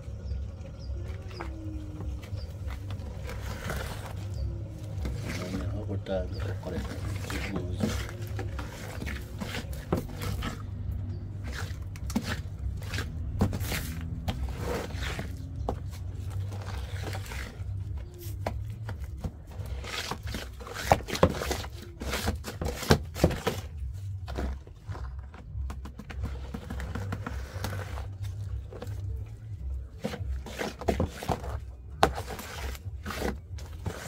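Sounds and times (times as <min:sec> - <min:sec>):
stick stirring thick paste: 0:00.0 - 0:25.4, 0:26.0 - 0:34.0
stick scraping plastic basin: 0:00.8 - 0:34.0.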